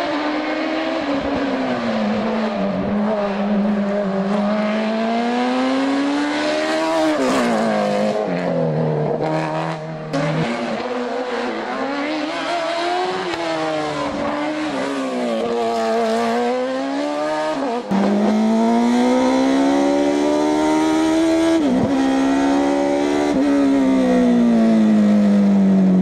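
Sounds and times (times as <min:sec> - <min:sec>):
racing car engine revving high: 0:00.0 - 0:25.4
car engine accelerating uphill: 0:00.0 - 0:26.0.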